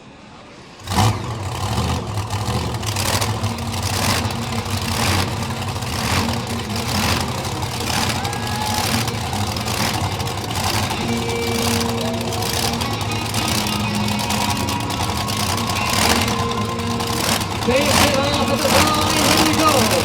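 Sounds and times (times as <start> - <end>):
truck engines revving: 0.6 - 20.0.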